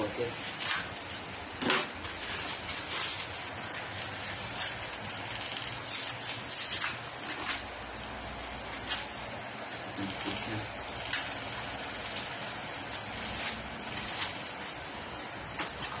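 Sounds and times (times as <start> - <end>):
plastic wrapping crinkling: 0.0 - 16.0
steady hiss: 0.0 - 16.0.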